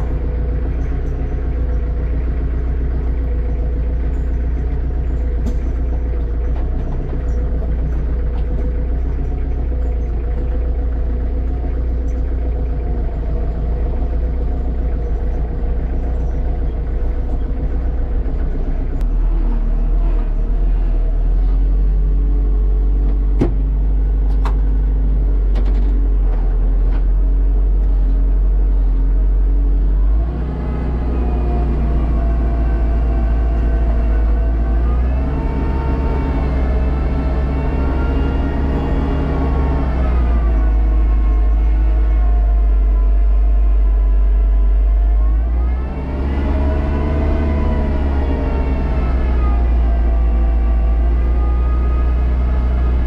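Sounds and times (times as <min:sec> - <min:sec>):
tractor diesel engine droning: 0:00.0 - 0:53.0.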